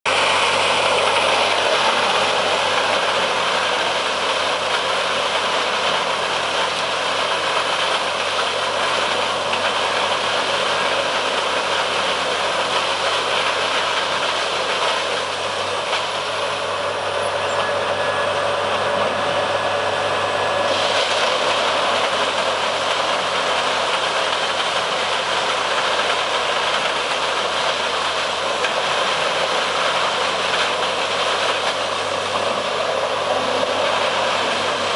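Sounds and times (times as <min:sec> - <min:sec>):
wood chipper chipping logs: 0:00.1 - 0:34.9.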